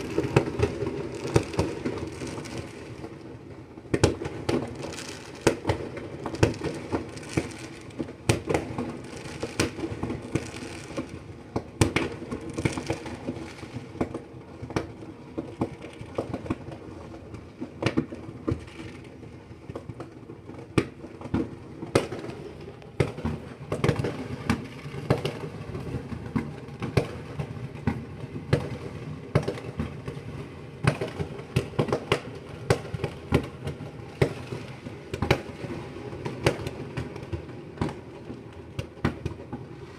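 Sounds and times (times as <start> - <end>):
fireworks bangs and crackles: 0.0 - 39.8.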